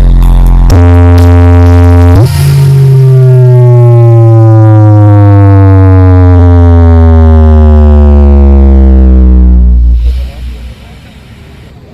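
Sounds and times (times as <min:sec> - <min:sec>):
distorted bass sweep: 0:00.0 - 0:11.8.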